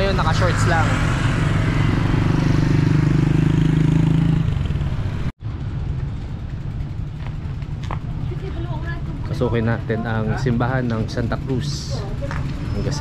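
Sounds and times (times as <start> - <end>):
quiet street sound: 0.0 - 13.0
vehicle engine running: 0.0 - 13.0.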